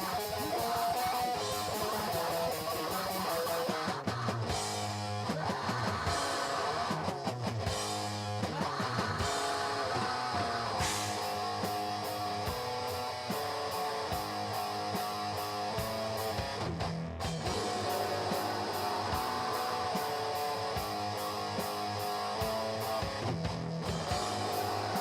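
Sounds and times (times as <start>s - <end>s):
strummed electric guitars: 0.0s - 25.0s.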